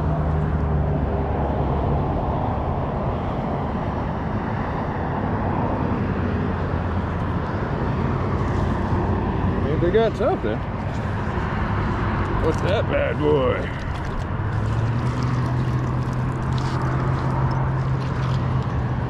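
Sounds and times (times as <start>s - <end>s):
low engine hum: 0.0s - 19.0s
traffic rumble: 0.0s - 19.0s.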